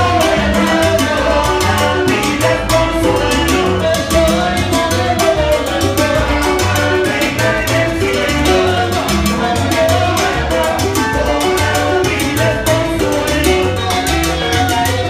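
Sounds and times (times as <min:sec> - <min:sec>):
repeating bass line: 0:00.0 - 0:15.0
salsa band playing: 0:00.0 - 0:15.0
timbales and congas: 0:00.0 - 0:15.0.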